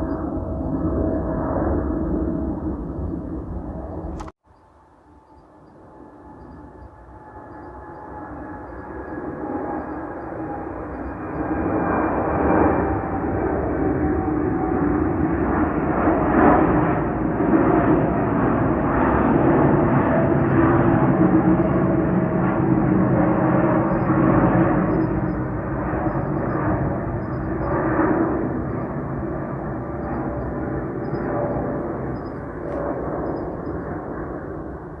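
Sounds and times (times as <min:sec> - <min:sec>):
jet engines roaring: 0:00.0 - 0:04.3, 0:05.1 - 0:35.0.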